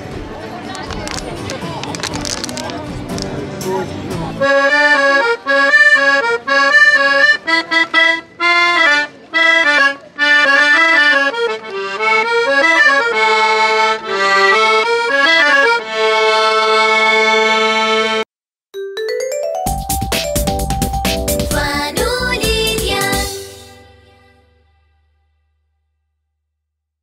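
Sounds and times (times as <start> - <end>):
accordion melody: 1.1 - 24.6.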